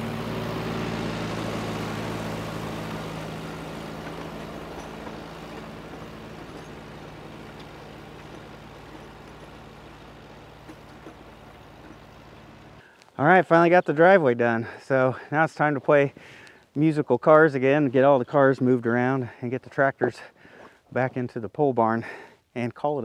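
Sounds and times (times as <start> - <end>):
tractor engine running: 0.0 - 21.4.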